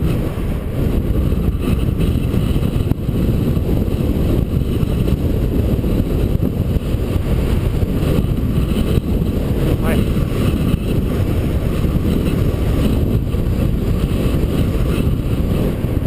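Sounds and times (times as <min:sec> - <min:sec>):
wind rumbling over microphone: 0:00.0 - 0:16.0.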